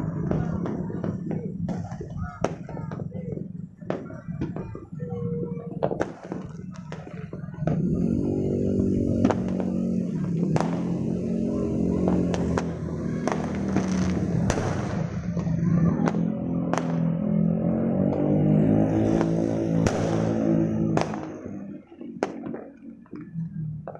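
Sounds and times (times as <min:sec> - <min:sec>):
distant fireworks banging: 0:00.0 - 0:23.9.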